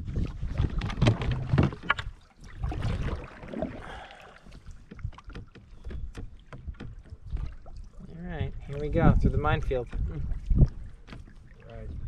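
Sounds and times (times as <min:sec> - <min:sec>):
wind rumble on microphone: 0:00.0 - 0:04.0, 0:04.9 - 0:12.0
paddle strokes: 0:00.0 - 0:12.0
water splashing against hull: 0:00.0 - 0:12.0.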